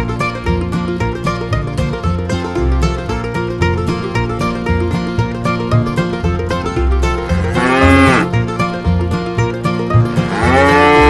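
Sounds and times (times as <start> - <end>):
bluegrass plucked-string tune: 0.0 - 11.0.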